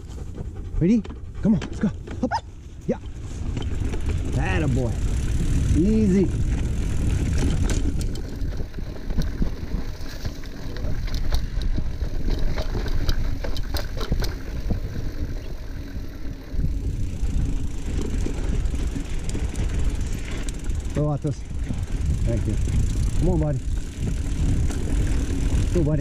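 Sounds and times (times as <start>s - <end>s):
bike rattling over bumps: 0.0s - 26.0s
wind buffeting microphone: 2.9s - 26.0s
tyres rolling over dirt: 3.0s - 26.0s.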